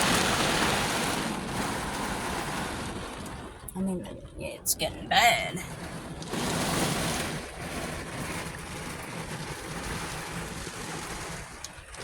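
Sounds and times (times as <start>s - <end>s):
heavy rain on a car: 0.0s - 12.0s.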